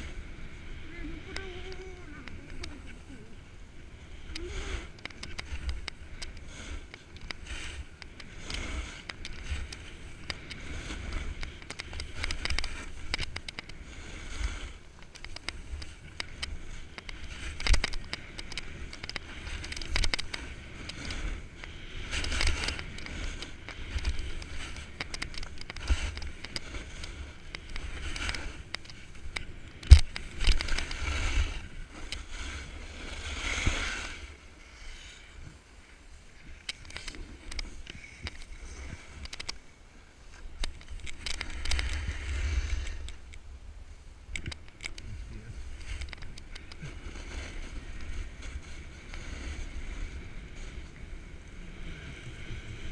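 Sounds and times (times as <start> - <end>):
snowboard scraping on packed snow: 0.0 - 44.2, 45.1 - 52.9
wind on microphone: 0.0 - 52.9.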